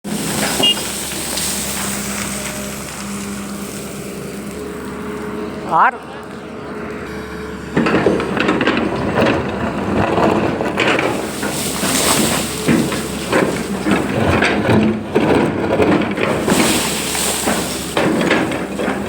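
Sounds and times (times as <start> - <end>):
digging knocks and scraping: 0.0 - 5.4, 7.0 - 19.0
excavator machine noise: 0.0 - 19.0.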